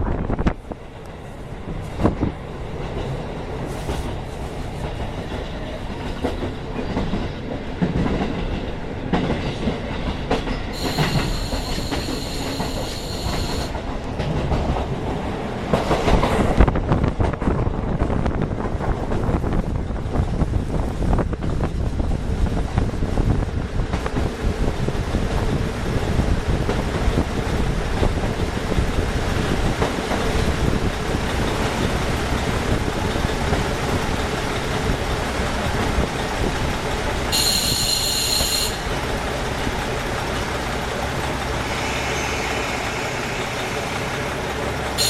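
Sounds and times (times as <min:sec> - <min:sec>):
railcar wheels and engine rumbling: 0:00.0 - 0:45.0.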